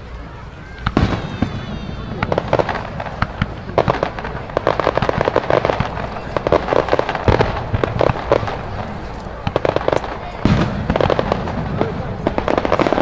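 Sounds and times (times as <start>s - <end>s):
fireworks crackling pops: 0.0s - 13.0s.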